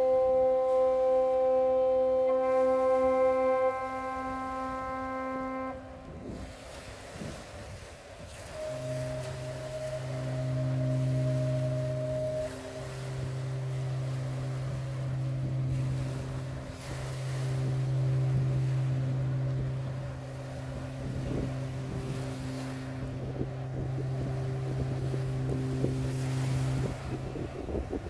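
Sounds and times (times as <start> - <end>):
ship engines droning: 0.0 - 7.1, 8.4 - 28.0
wind on microphone: 0.0 - 28.0.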